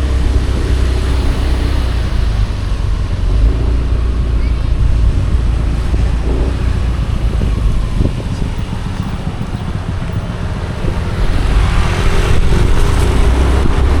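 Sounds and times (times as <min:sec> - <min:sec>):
motorcycle engine rumble: 0:00.0 - 0:14.0
road noise: 0:00.0 - 0:14.0.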